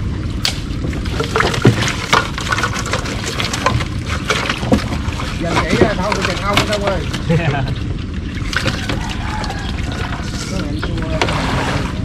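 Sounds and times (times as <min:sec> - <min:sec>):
water splashing and dripping: 0:00.4 - 0:12.0.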